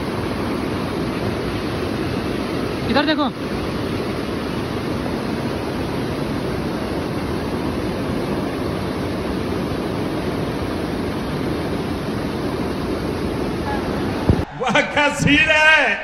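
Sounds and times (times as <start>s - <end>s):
river water rushing over rocks: 0.0s - 14.7s.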